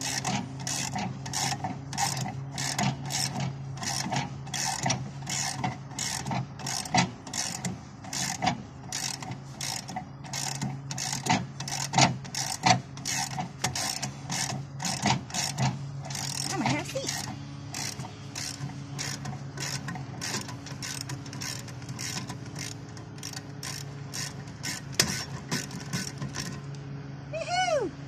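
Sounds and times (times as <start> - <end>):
ratchet wrench clicking: 0.0 - 26.7.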